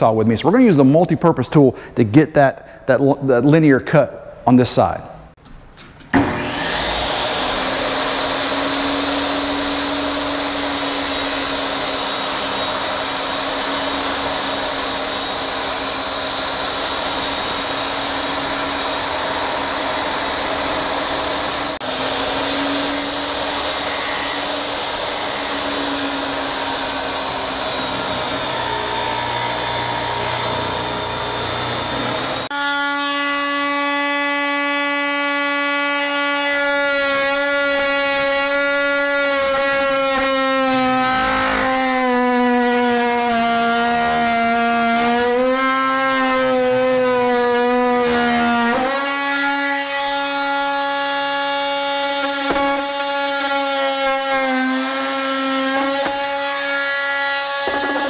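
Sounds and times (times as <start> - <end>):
table saw cutting: 6.1 - 58.0.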